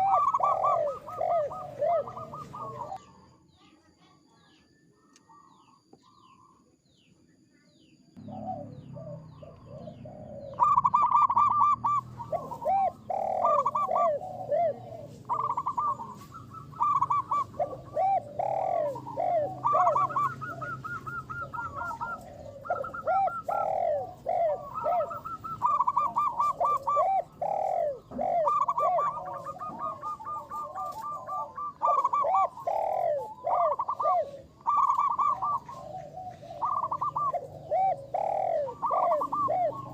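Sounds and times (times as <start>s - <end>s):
doves cooing: 0.0s - 3.4s, 8.2s - 39.9s.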